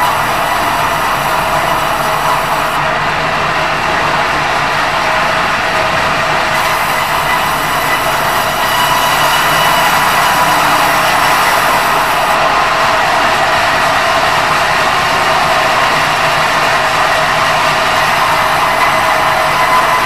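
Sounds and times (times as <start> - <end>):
loud mechanical running noise: 0.0 - 20.0.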